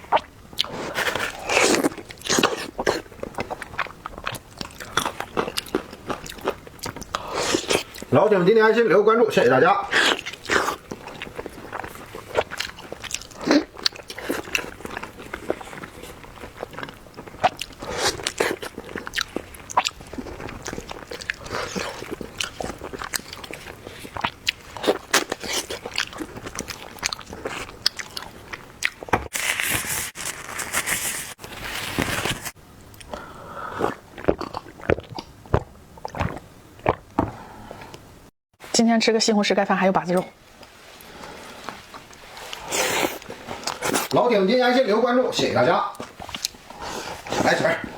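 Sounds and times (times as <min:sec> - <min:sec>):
food chewing and crunching: 0:00.0 - 0:08.1, 0:09.4 - 0:38.0, 0:40.5 - 0:44.2, 0:45.9 - 0:47.9.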